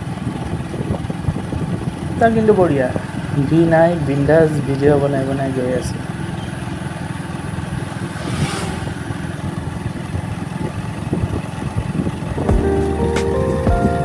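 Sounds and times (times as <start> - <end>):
motorcycle engine cruising: 0.0 - 14.0
road and wind noise: 0.0 - 14.0.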